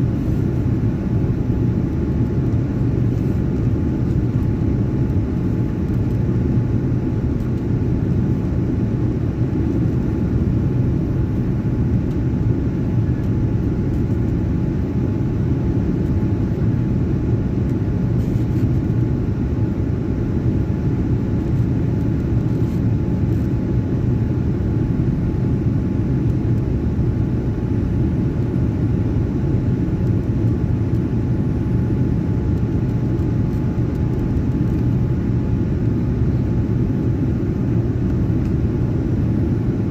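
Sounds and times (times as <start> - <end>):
airliner engines rumbling: 0.0 - 39.9
faint steady whine: 0.0 - 39.9.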